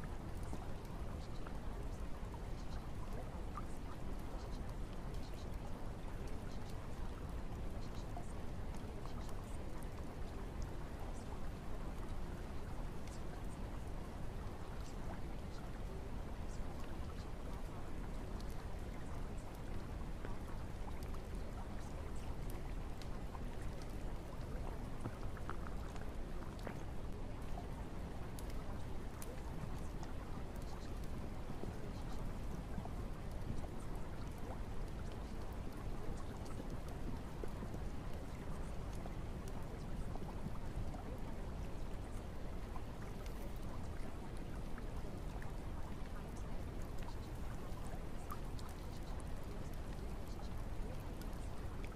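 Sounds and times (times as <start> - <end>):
raindrops ticking: 0.0 - 51.9
steady rain hiss: 0.0 - 51.9.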